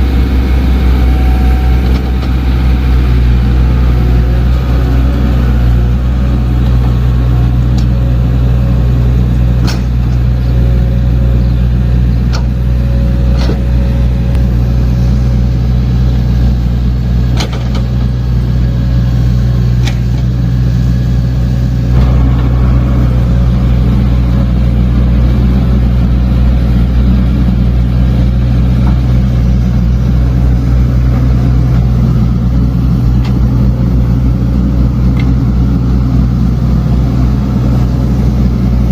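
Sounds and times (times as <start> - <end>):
heavy diesel machine running: 0.0 - 38.9.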